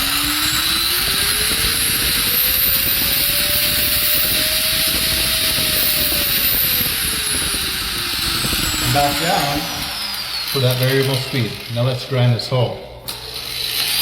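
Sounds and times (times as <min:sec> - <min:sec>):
angle grinder motor whine: 0:00.0 - 0:12.3, 0:12.9 - 0:14.0.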